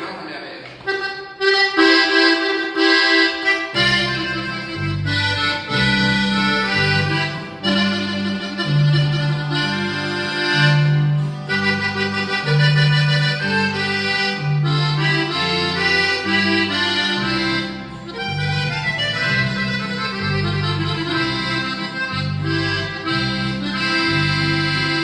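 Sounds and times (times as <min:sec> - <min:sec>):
accordion melody: 0:00.8 - 0:25.0
electric bass line: 0:03.7 - 0:25.0.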